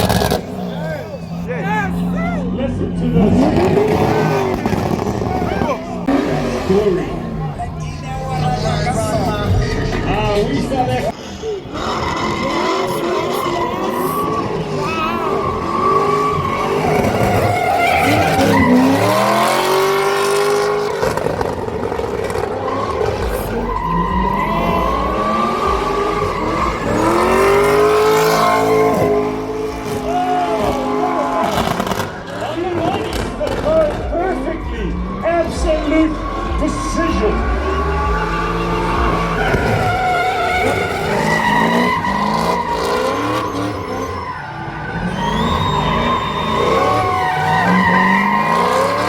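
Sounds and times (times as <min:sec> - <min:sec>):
car engine revving hard: 0:00.0 - 0:49.0
tyres squealing: 0:00.0 - 0:49.0.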